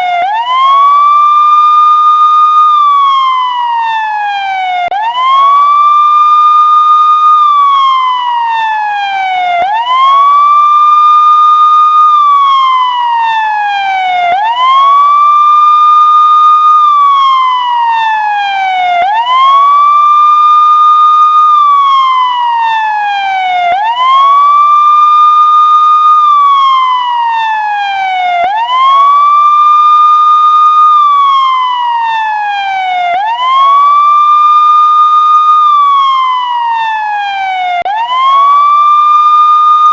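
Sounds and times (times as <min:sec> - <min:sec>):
emergency siren slow wail: 0:00.0 - 0:39.9.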